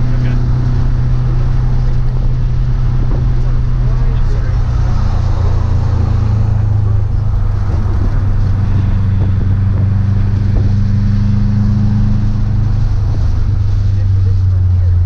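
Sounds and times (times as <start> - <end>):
car engine and road drone: 0.0 - 15.0
higher engine note: 0.0 - 15.0.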